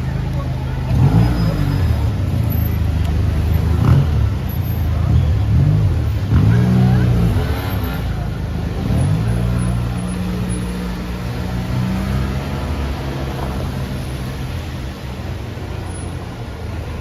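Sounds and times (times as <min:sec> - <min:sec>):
vehicle engines passing: 0:00.0 - 0:17.0.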